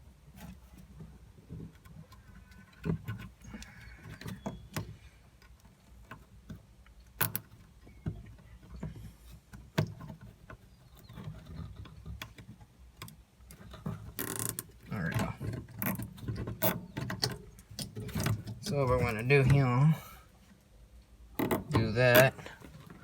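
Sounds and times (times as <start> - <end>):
hands working wiring: 0.3 - 20.6, 21.4 - 23.0.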